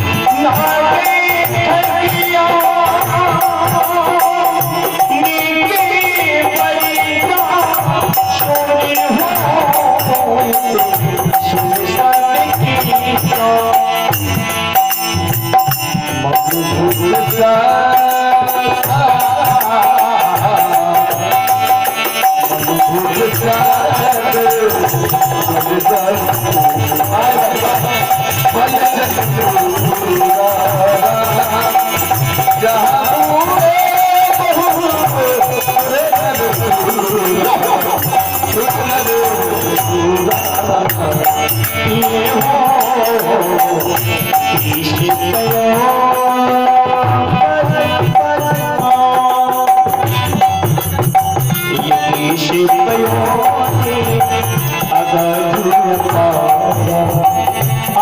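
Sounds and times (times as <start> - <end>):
devotional melody: 0.0 - 58.0
fast rattling percussion: 0.0 - 58.0.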